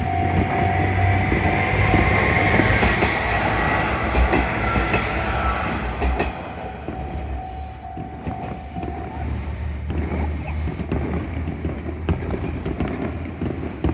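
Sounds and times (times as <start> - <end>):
train running over rails: 0.0 - 13.9.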